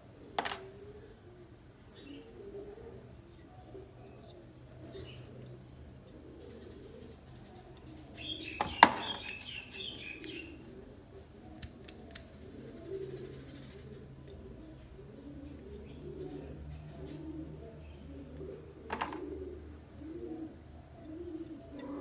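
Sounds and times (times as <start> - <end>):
doves cooing: 0.0 - 22.0
small birds chirping: 0.2 - 22.0.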